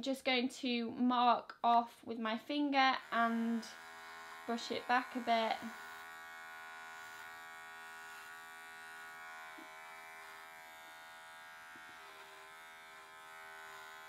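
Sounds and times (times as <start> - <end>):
electric trimmer buzzing: 2.5 - 14.0.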